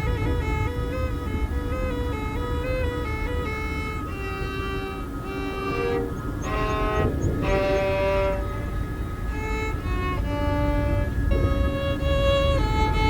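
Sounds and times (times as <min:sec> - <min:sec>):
music of held chords: 0:00.0 - 0:13.0
steady low rumble: 0:00.0 - 0:13.0.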